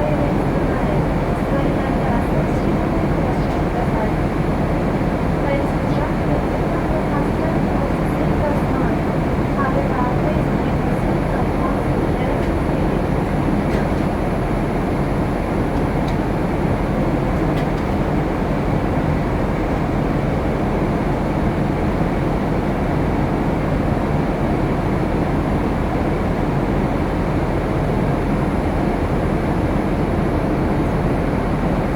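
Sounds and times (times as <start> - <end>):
airliner cabin airflow and engine noise: 0.0 - 31.9.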